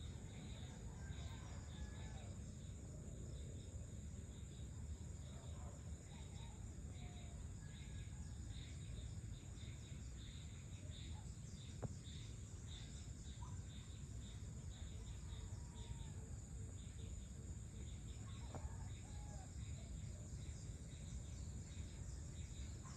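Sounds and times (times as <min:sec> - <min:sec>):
insects droning and chirping: 0:00.0 - 0:22.9.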